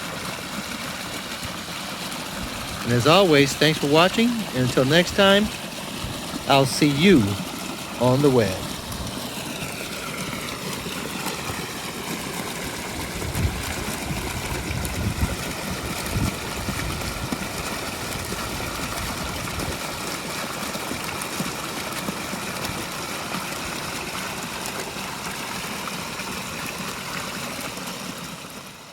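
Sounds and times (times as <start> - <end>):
water pouring over rocks: 0.0 - 28.9.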